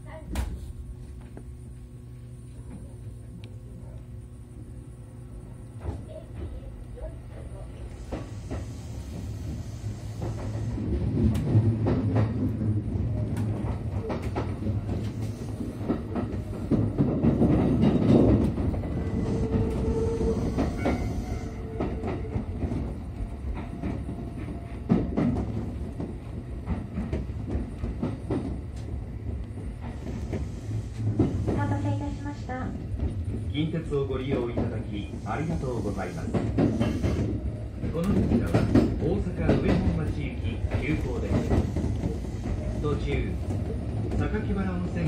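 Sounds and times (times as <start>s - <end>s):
electric train rumbling: 0.0s - 45.0s.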